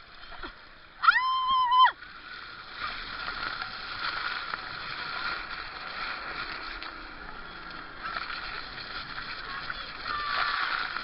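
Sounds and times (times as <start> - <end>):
water sloshing: 2.0 - 11.0.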